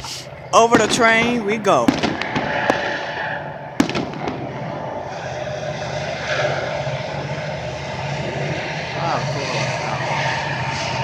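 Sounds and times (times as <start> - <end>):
vehicle passing rumble: 0.1 - 11.0.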